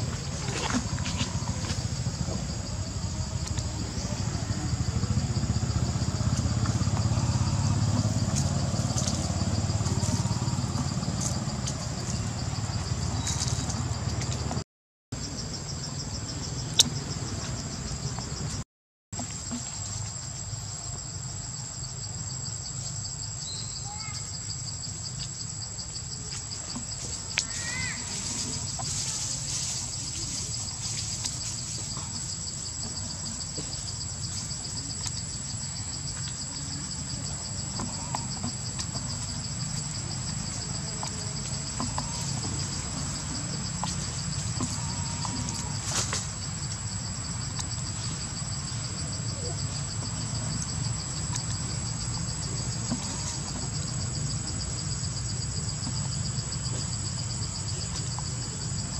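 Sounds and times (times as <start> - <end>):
insects chirping: 0.0 - 18.6, 19.2 - 58.9.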